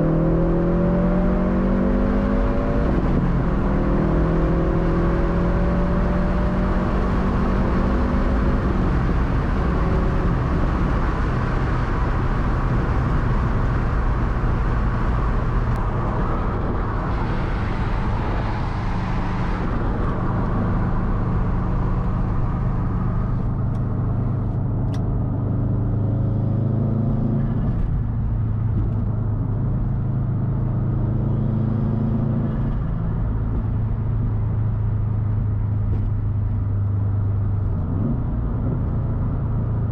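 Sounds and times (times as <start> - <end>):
car engine droning while driving: 0.0 - 39.9.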